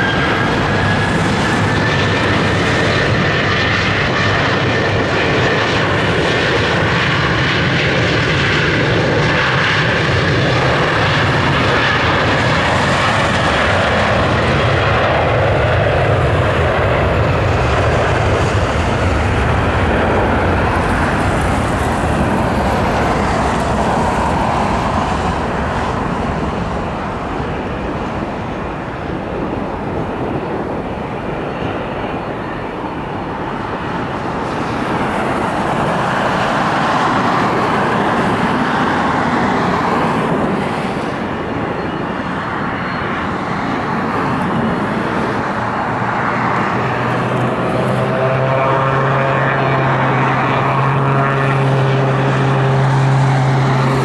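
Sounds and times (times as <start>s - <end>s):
jet engines at takeoff: 0.0s - 54.0s.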